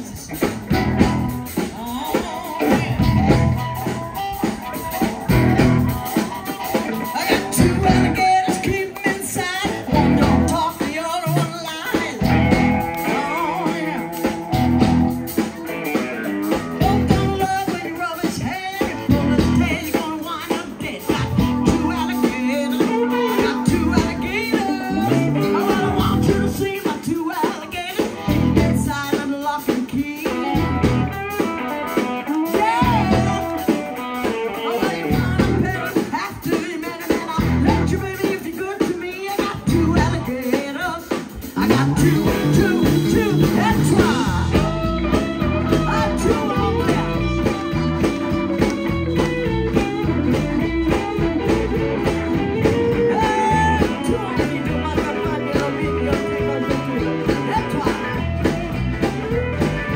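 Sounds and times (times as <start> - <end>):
blues harmonica: 0.0 - 8.7, 9.3 - 59.9
drums: 0.0 - 59.9
electric bass: 0.0 - 59.9
electric guitar: 0.0 - 59.9
woman singing: 1.5 - 4.0, 6.7 - 15.4, 16.5 - 51.3, 52.3 - 58.2.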